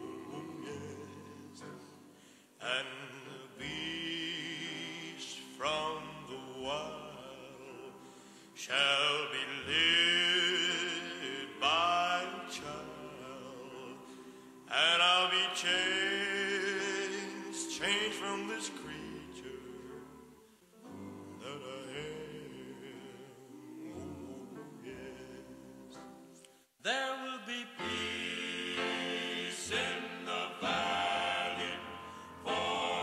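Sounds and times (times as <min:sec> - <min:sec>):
sustained accompaniment: 0:00.0 - 0:26.1, 0:27.8 - 0:33.0
person singing with vibrato: 0:00.0 - 0:33.0.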